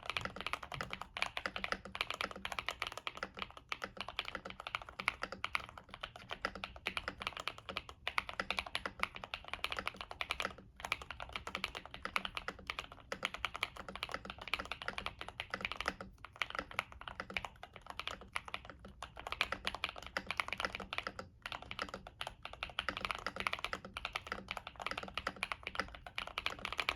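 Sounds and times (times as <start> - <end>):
fast typing on mechanical keyboard: 0.0 - 26.9.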